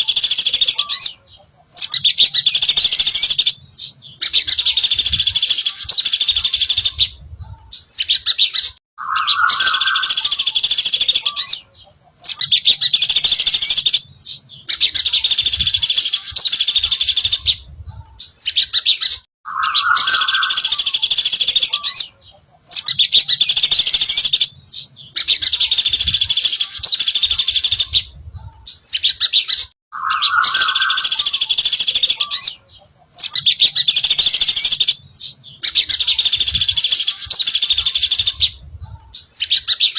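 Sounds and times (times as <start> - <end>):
songbird singing rapid trills: 0.0 - 39.9.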